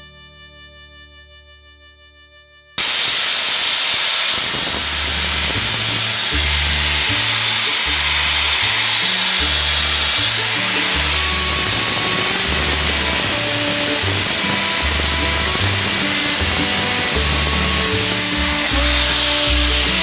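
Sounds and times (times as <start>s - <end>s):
steam locomotive venting steam: 2.8s - 20.0s.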